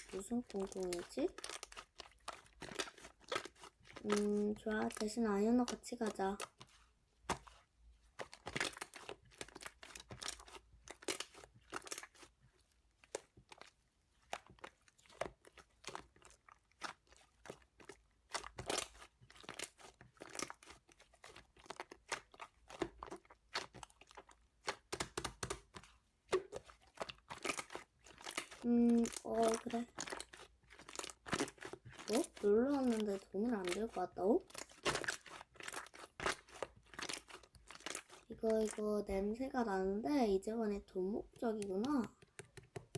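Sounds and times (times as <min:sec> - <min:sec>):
slime crackling and popping: 0:00.0 - 0:39.7, 0:41.4 - 0:42.9.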